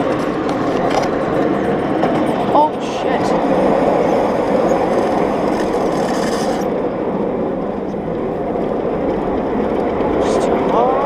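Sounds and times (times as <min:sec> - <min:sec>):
miniature steam train rumbling: 0:00.0 - 0:11.0.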